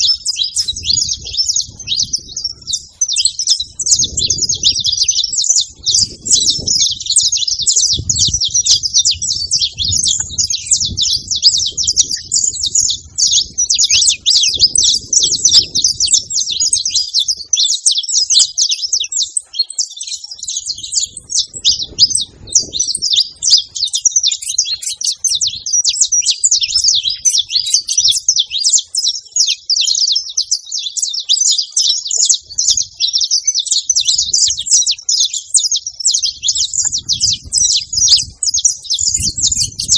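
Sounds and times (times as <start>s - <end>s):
finch twittering: 0.0s - 39.9s.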